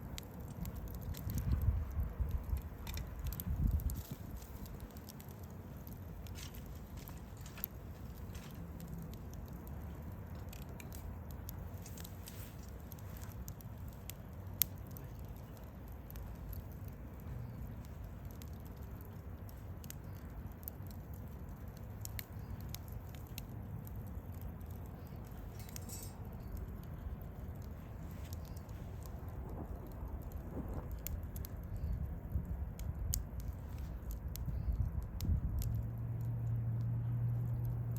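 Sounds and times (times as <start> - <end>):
campfire crackling and popping: 0.0 - 37.9
low rumble of flame: 0.0 - 37.9.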